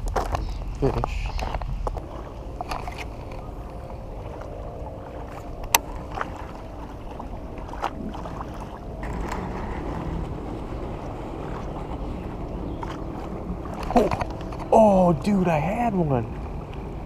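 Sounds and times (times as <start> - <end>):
river water: 0.0 - 17.0
wind: 0.0 - 17.0.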